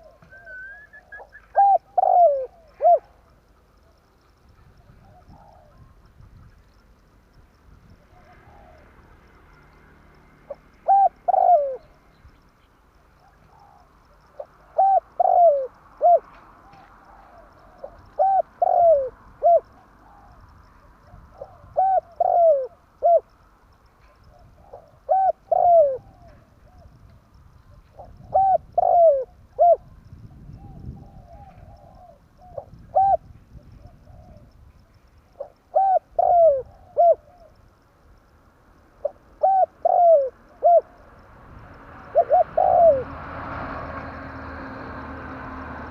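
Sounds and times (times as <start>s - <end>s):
dove cooing: 0.0s - 6.6s, 7.8s - 9.2s, 10.5s - 12.0s, 13.2s - 23.3s, 24.2s - 27.1s, 27.7s - 34.6s, 35.3s - 37.6s, 39.0s - 44.8s.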